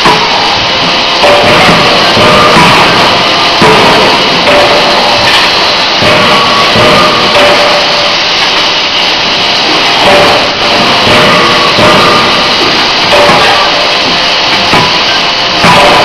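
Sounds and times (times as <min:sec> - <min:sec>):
forging machinery running: 0:00.0 - 0:16.0.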